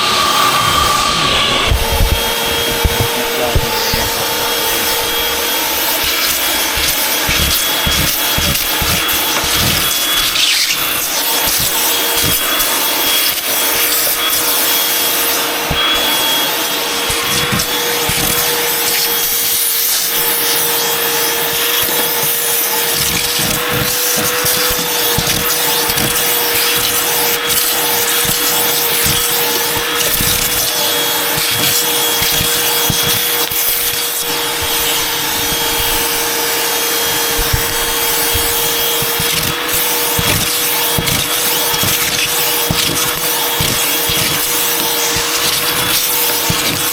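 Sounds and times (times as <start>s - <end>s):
vacuum bumping and rubbing floor: 0.0s - 46.9s
vacuum cleaner running: 0.0s - 46.9s.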